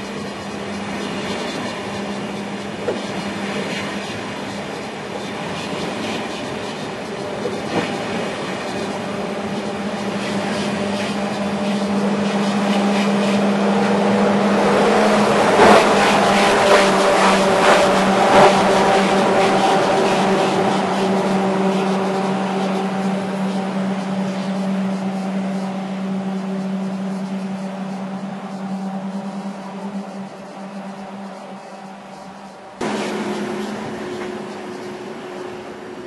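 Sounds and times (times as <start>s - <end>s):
train hum: 0.0s - 36.0s.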